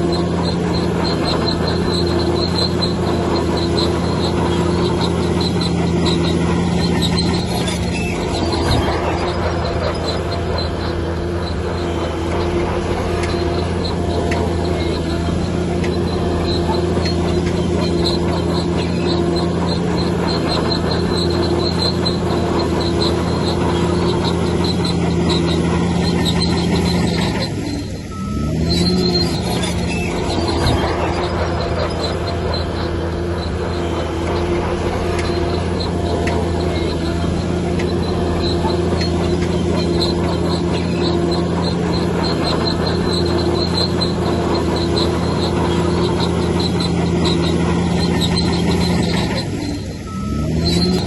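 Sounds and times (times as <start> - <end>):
diesel engine running: 0.0 - 51.0
rhythmic high squeak: 0.0 - 51.0.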